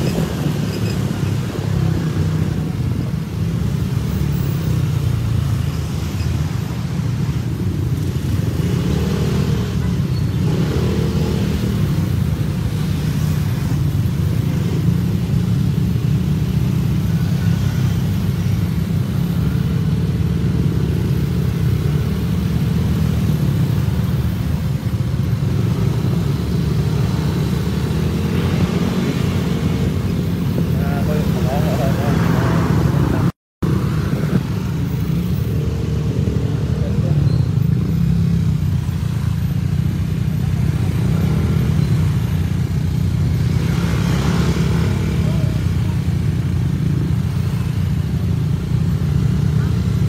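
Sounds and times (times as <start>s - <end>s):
motorcycle and scooter engines: 0.0s - 50.0s.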